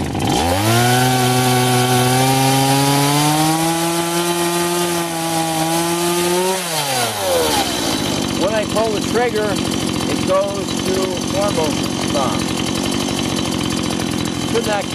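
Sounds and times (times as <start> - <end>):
chainsaw engine idling: 0.0 - 14.9.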